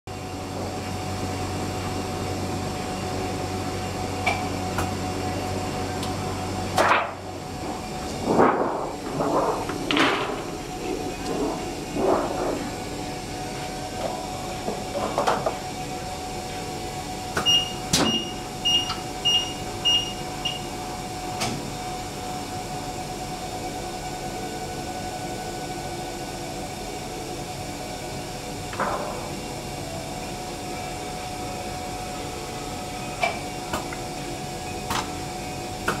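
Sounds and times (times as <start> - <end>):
steady machine hum: 0.1 - 36.0.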